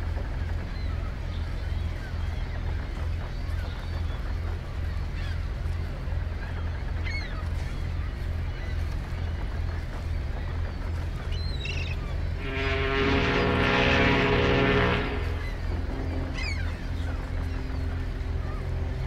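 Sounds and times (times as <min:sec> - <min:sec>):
gulls calling: 0:00.1 - 0:19.0.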